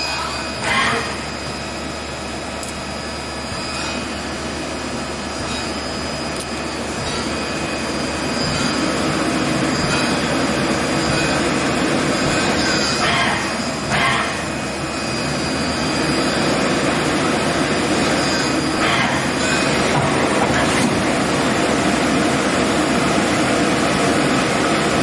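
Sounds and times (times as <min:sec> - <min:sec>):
lathe hum with high whine: 0:00.0 - 0:25.0.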